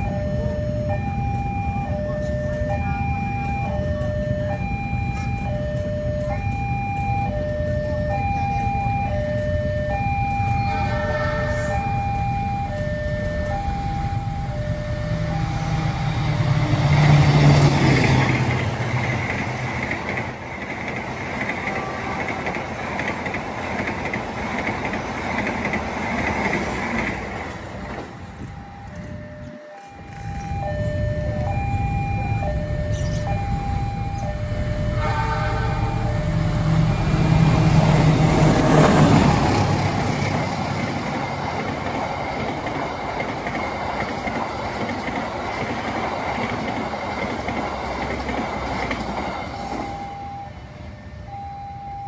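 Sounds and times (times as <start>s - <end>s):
train coaches rumbling on rails: 0.0s - 51.5s
diesel locomotive drone: 0.0s - 52.0s.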